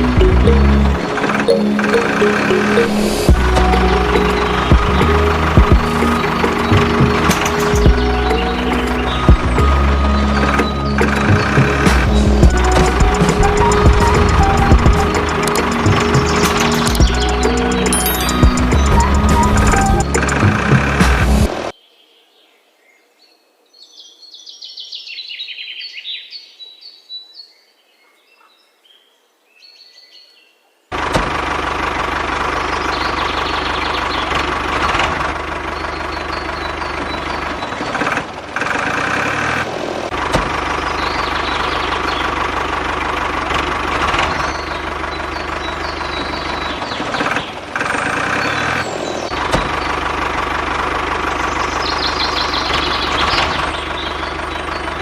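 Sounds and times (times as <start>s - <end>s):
tractor engine running: 0.0s - 21.7s, 30.9s - 55.0s
birds chirping: 0.0s - 55.0s.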